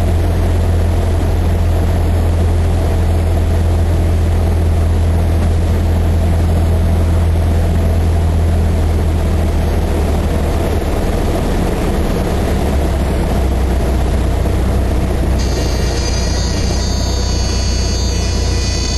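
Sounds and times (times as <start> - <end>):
propeller plane engine droning: 0.0 - 18.9.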